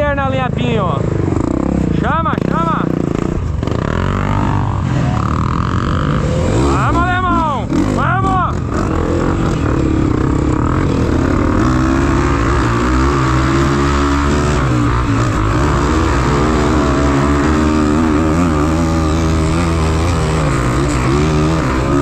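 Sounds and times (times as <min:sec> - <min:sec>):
off-road motorcycle engines revving: 0:00.0 - 0:22.0.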